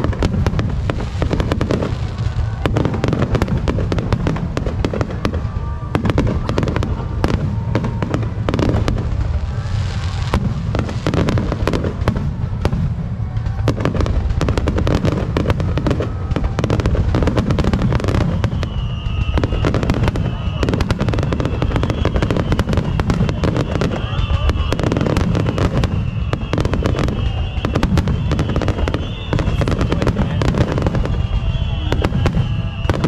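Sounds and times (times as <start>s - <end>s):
continuous low rumble: 0.0s - 33.0s
fireworks bursts and crackle: 0.0s - 33.0s.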